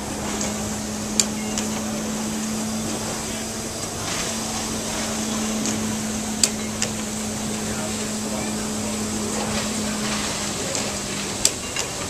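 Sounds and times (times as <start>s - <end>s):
engine mechanical hum: 0.0s - 12.0s.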